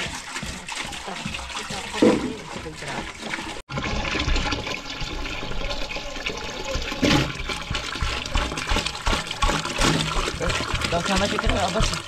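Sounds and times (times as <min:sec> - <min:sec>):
water pouring into metal pot: 0:00.0 - 0:12.0
water splash: 0:00.0 - 0:12.0.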